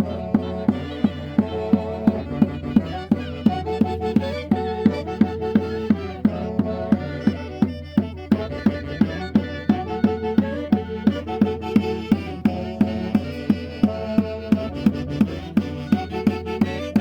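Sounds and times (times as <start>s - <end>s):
drum beaten in steady rhythm: 0.0s - 17.0s.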